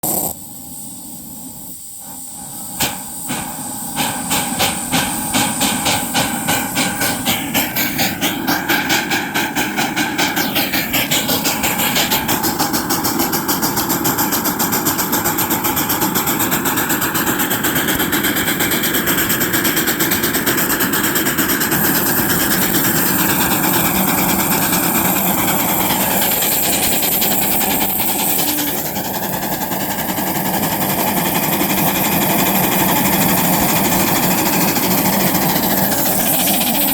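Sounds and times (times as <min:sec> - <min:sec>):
steam locomotive exhaust chuffing: 0:00.0 - 0:36.9.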